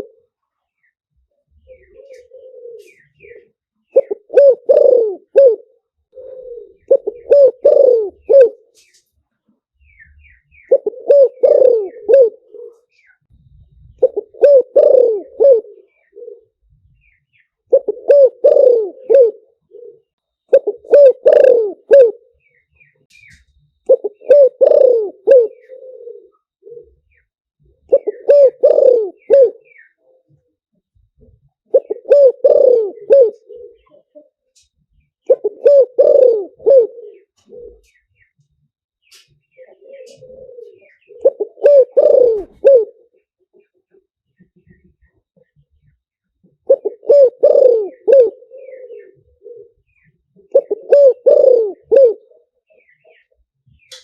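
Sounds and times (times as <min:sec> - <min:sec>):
dove cooing: 0:00.0 - 0:00.4, 0:01.3 - 0:09.0, 0:09.8 - 0:30.6, 0:31.2 - 0:34.6, 0:35.2 - 0:38.2, 0:39.5 - 0:54.0.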